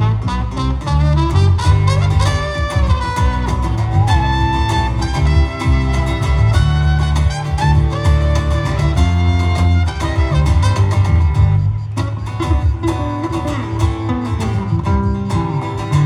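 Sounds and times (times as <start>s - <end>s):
sliding lead melody: 0.0s - 16.0s
steady bass: 0.0s - 16.0s
strummed guitar: 0.0s - 16.0s.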